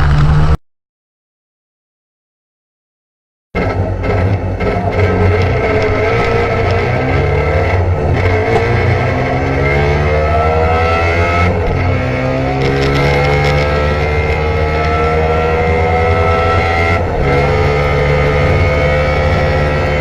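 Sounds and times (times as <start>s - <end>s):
two-stroke car engine under load: 0.0s - 0.6s, 3.6s - 20.0s.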